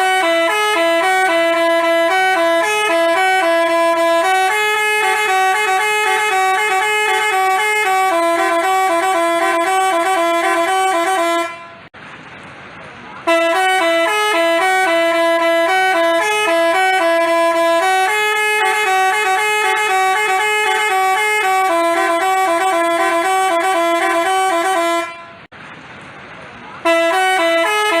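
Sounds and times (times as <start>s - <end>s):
multi-tone bus horn melody: 0.0s - 11.9s, 13.2s - 25.5s, 26.8s - 28.0s.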